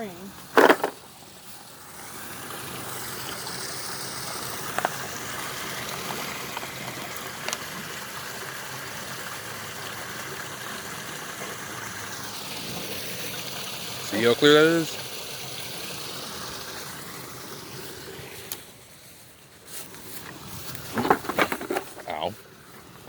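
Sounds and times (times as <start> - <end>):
water trickling: 0.0 - 18.6.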